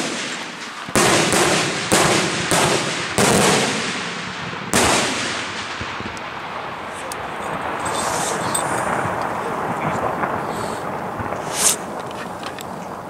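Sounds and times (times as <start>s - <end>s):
firework bangs with rolling echo: 0.0s - 13.0s.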